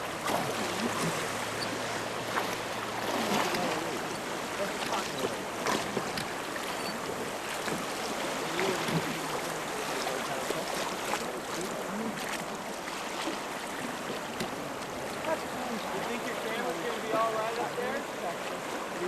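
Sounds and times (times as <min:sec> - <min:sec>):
river water rushing: 0:00.0 - 0:19.0
short water splashes: 0:00.0 - 0:19.0.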